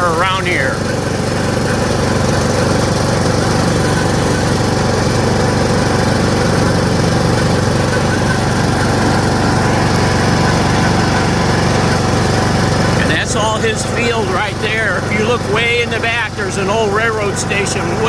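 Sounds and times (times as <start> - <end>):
riding lawn mower engine running: 0.0 - 18.0.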